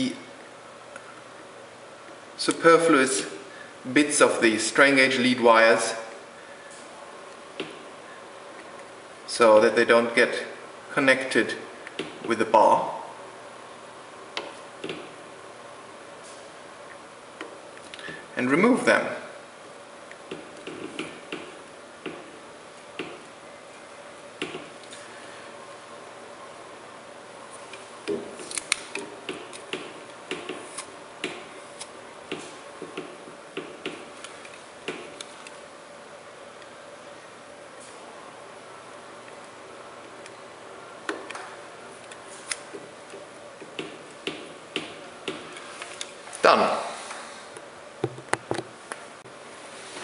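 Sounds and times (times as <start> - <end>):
low hiss: 0.0 - 50.0.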